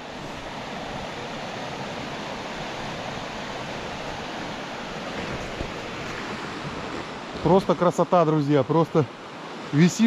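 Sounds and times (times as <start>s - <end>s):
river rapids rushing: 0.0s - 10.0s.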